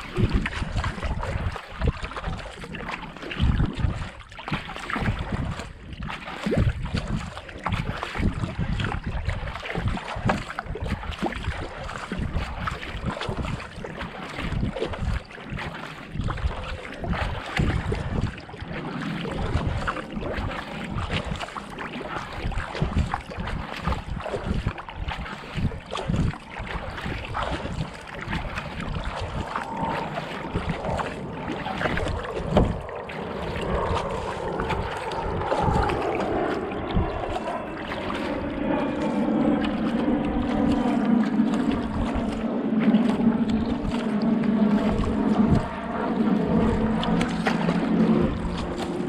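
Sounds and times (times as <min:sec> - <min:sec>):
paddle blades splashing water: 0:00.0 - 0:49.0
wind rumbling on microphone: 0:00.0 - 0:49.0.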